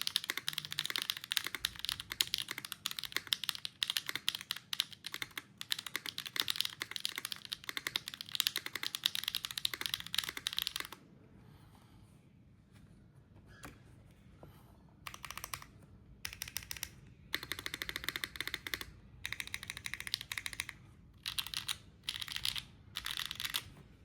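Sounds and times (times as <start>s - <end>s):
mechanical keyboard typing: 0.0s - 11.0s, 15.1s - 23.7s.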